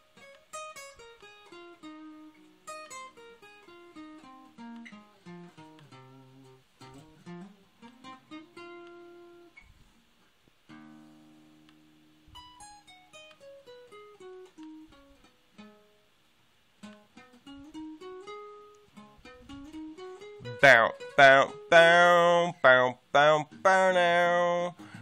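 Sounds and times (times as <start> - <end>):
acoustic guitar plucking: 0.0 - 9.7, 10.7 - 16.1, 16.8 - 25.0.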